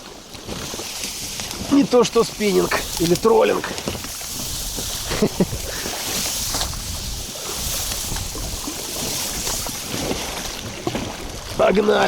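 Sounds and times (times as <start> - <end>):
waves splashing around boat: 0.0 - 12.0
strong wind buffeting microphone: 0.5 - 12.0.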